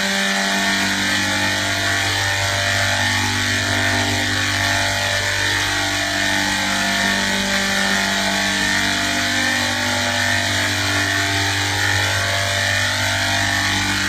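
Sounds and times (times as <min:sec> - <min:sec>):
steady mechanical drone: 0:00.0 - 0:14.0.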